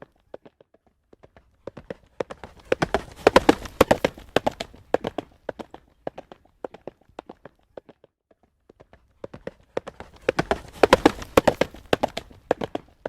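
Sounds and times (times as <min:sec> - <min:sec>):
horse hooves trotting on pavement: 0:00.0 - 0:13.0.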